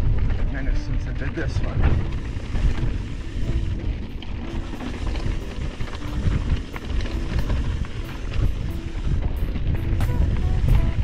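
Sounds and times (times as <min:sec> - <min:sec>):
bike clicks and clatter: 0:00.0 - 0:11.0
wind rumble on microphone: 0:00.0 - 0:11.0.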